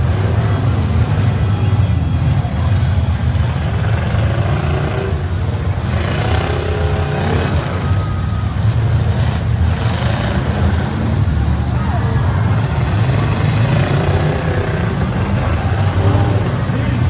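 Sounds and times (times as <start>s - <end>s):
car engines rumbling: 0.0s - 17.0s
engines revving: 0.0s - 17.0s.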